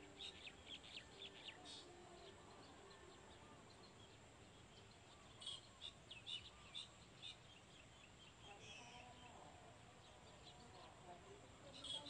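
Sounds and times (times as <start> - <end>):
faint bird chirps: 0.0 - 12.0
low background hiss: 0.0 - 12.0.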